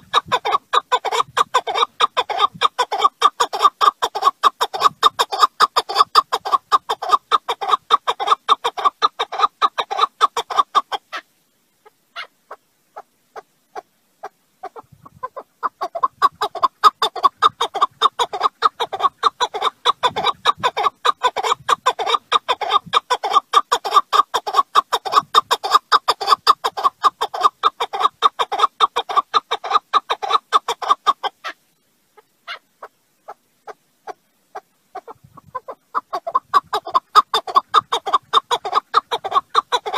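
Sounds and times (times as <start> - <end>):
partridge clucking calls: 0.0 - 31.6, 32.2 - 39.9.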